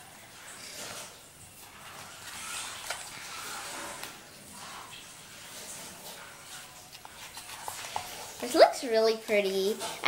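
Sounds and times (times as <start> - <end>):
slime stirred with a spoon: 0.0 - 10.0.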